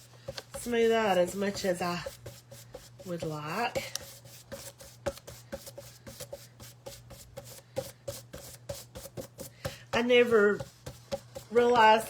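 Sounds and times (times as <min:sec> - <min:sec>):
paintbrush scrubbing on board: 0:00.0 - 0:12.0.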